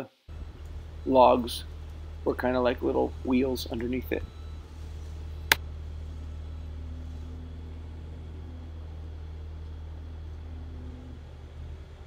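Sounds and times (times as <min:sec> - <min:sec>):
steady low hum: 0:00.3 - 0:12.0.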